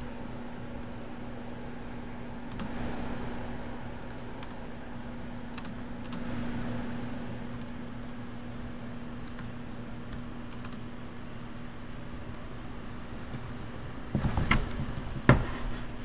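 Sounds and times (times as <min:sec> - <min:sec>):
steady background hum and hiss: 0:00.0 - 0:16.0.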